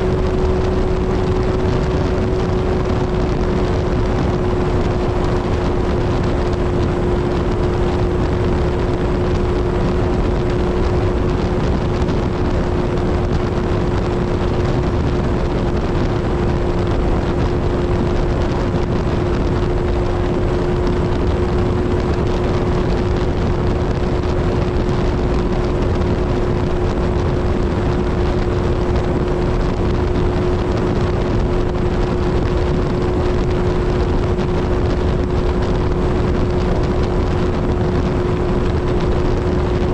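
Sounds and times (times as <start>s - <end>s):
heavy rushing noise: 0.0s - 39.9s
motorcycle engine cruising: 0.0s - 39.9s.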